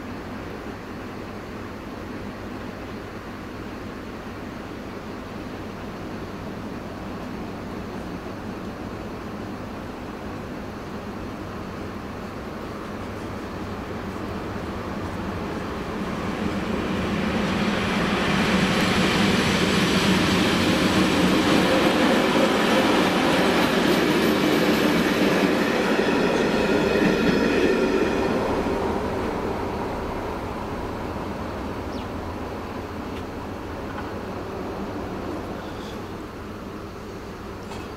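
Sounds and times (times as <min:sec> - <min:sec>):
diesel locomotive engine: 0:00.0 - 0:37.9
train wheels on rails: 0:00.0 - 0:37.9.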